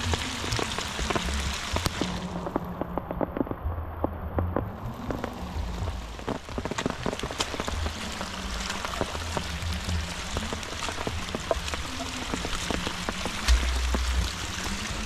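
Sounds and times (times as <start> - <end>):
steady rain on grass: 0.0 - 15.0.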